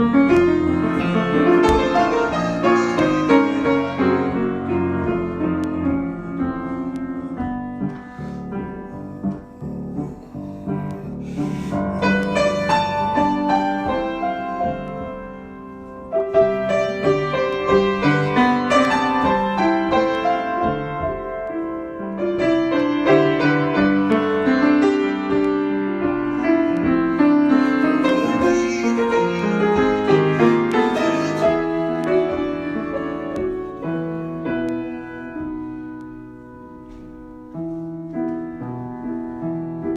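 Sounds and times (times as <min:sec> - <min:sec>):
solo piano: 0:00.0 - 0:39.9.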